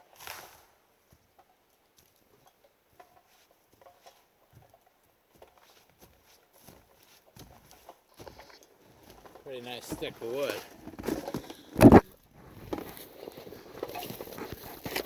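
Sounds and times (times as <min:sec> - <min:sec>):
faint ticks and crunches: 0:01.1 - 0:15.0.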